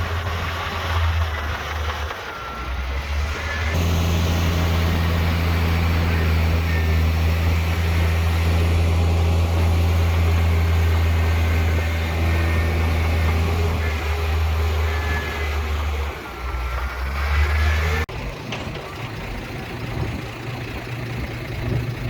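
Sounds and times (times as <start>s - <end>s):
heavy diesel engine droning: 0.0s - 22.0s.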